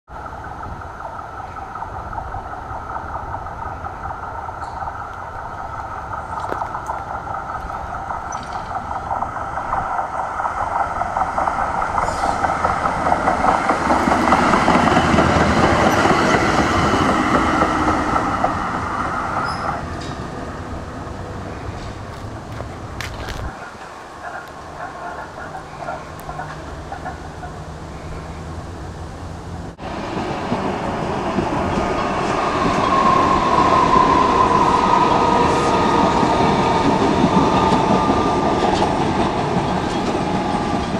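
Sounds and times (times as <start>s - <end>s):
tram passing on track: 0.1s - 40.9s.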